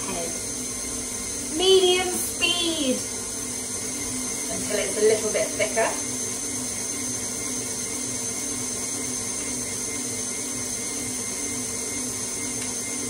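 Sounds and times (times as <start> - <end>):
stand mixer whirring: 0.0 - 13.0.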